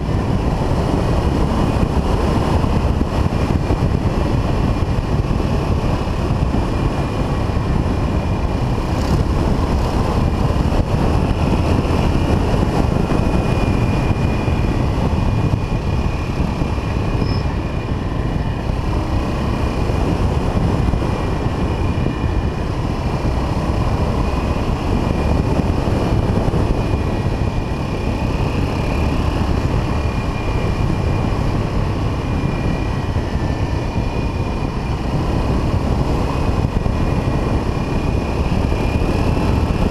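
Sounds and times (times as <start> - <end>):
motorcycle engine cruising: 0.0 - 39.9
wind rushing over camera: 0.0 - 39.9.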